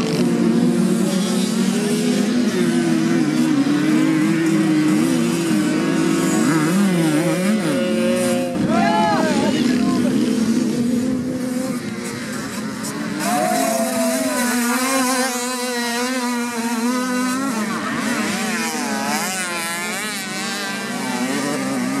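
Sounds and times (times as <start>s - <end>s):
two-stroke engines revving: 0.0s - 22.0s.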